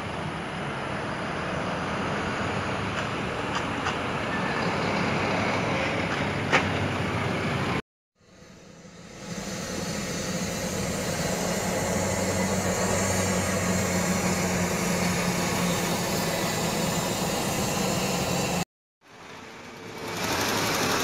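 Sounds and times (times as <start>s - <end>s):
diesel truck engines droning: 0.0s - 18.6s
road noise: 0.0s - 21.0s.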